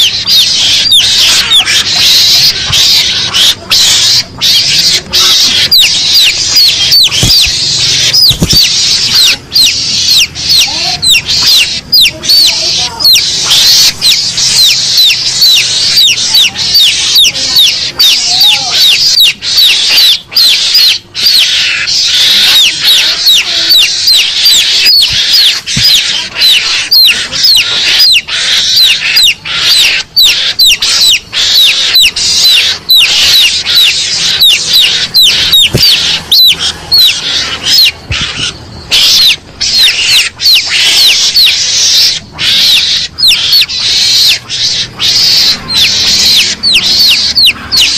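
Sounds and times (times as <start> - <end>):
high-pitched squealing lure calls: 0.0 - 47.9.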